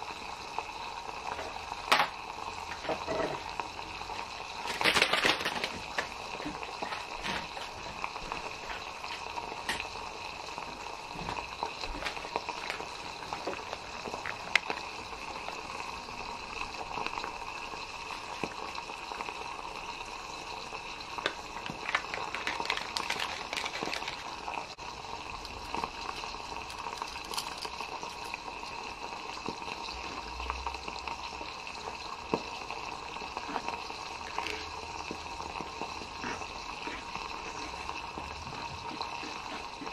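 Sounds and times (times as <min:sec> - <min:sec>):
water simmering in a pan: 0:00.0 - 0:39.9.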